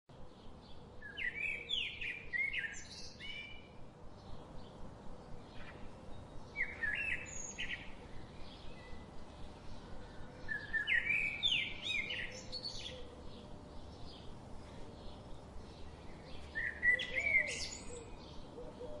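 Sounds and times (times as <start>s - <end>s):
low background hiss: 0.1s - 19.0s
songbird chirping: 0.1s - 19.0s.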